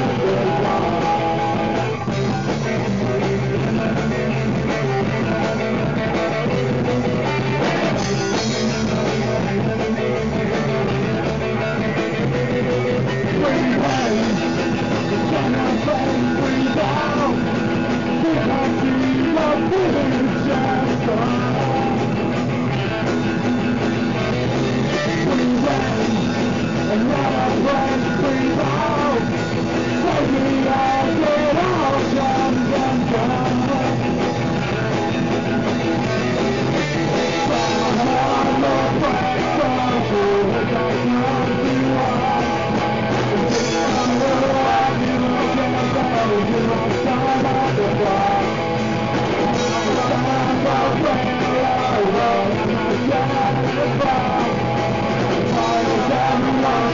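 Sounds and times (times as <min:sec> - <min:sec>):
punk rock band with singing: 0:00.0 - 0:56.9.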